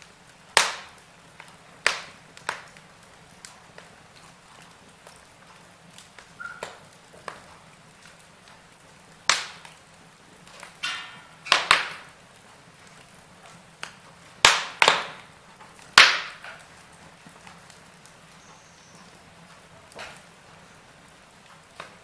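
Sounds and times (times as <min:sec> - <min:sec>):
quiet steady hiss: 0:00.0 - 0:22.0
wood fire crackling and popping: 0:00.0 - 0:22.0.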